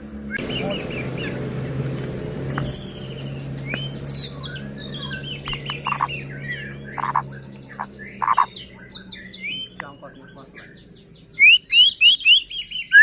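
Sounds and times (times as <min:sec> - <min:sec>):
bird singing whistles: 0:00.0 - 0:13.0.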